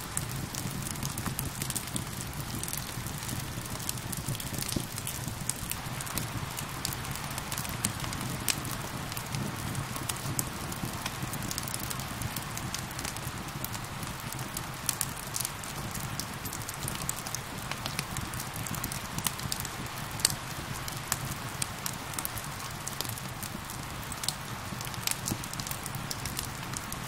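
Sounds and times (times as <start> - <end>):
fire crackling and popping: 0.0 - 27.0
rain falling: 0.0 - 27.0.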